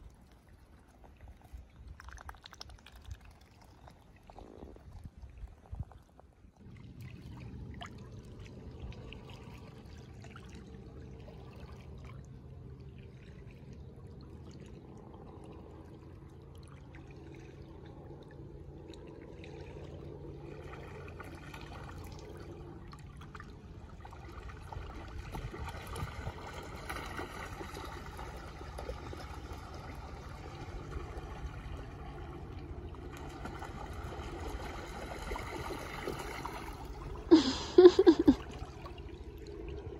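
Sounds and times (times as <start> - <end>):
small splashes: 0.0 - 5.6, 6.7 - 39.9.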